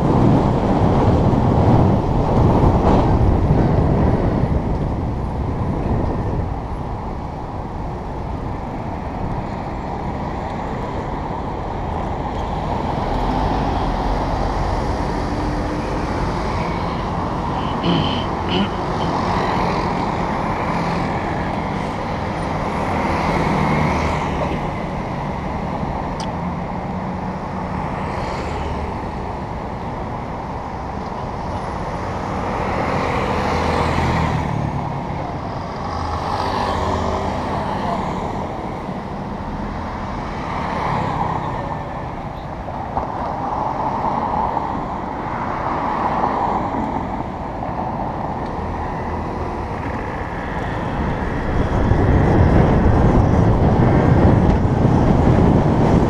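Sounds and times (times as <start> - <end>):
cars and scooters passing: 0.0 - 56.0.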